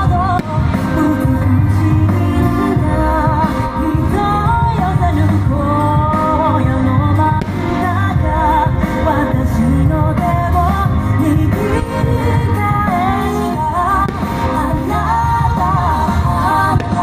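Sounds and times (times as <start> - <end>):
person singing with vibrato: 0.0 - 17.0
pop song backing: 0.0 - 17.0.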